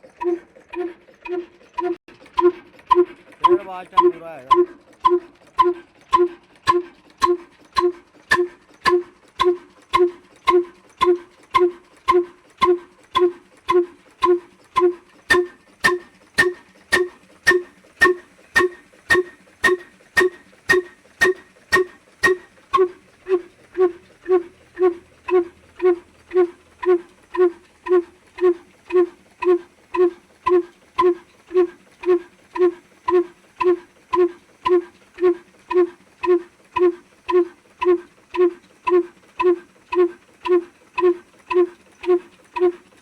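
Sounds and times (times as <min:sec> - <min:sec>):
diesel engine exhaust beating: 0:00.0 - 0:43.0.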